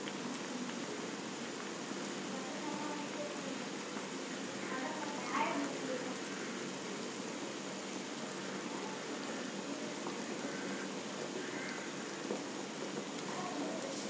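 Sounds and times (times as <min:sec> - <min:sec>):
gravy boiling and bubbling: 0:00.0 - 0:14.0.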